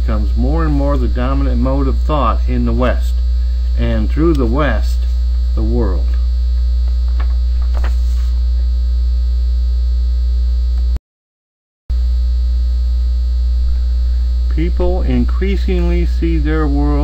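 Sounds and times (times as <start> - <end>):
faint electrical buzz: 0.0 - 11.0, 11.9 - 17.0
low electrical mains hum: 0.0 - 11.0, 11.9 - 17.0.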